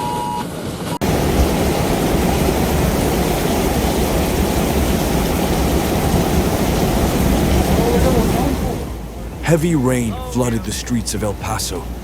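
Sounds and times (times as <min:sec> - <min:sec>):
heavy rain: 0:00.6 - 0:12.0
running floodwater: 0:01.0 - 0:12.0.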